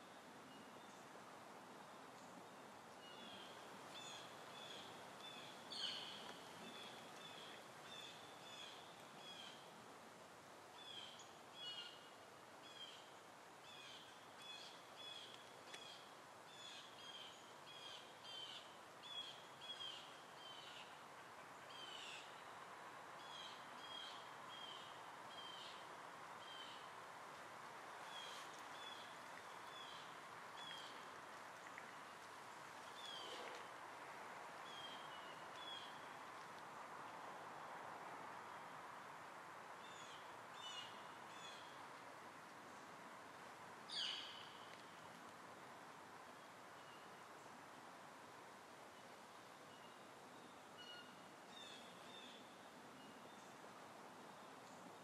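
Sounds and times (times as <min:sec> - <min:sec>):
low outdoor hiss: 0:00.0 - 0:55.0.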